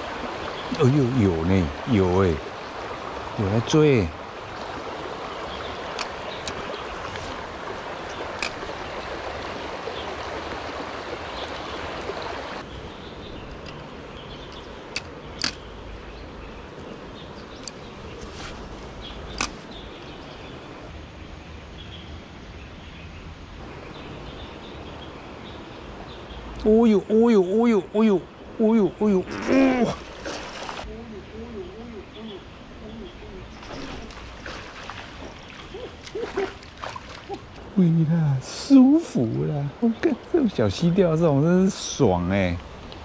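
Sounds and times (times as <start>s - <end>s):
stream water rushing: 0.0s - 21.1s, 23.6s - 31.4s, 32.0s - 43.0s.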